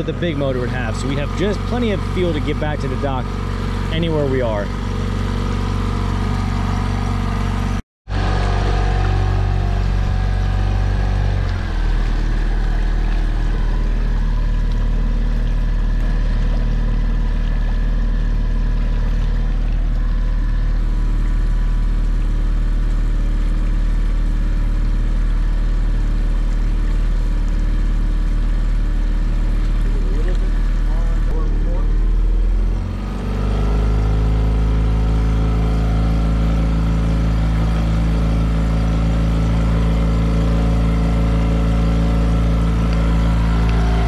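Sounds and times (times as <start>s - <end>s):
water splashing in boat wake: 0.0s - 7.3s, 8.1s - 44.0s
outboard motor running: 0.0s - 44.0s.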